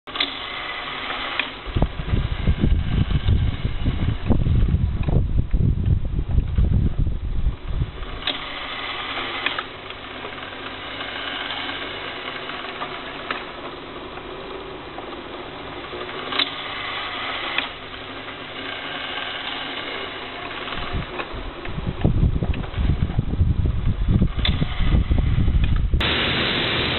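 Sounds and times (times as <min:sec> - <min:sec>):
sharp mechanical clicks: 0:00.1 - 0:04.4, 0:07.9 - 0:23.3, 0:24.1 - 0:26.0
mechanical whine: 0:00.1 - 0:26.9.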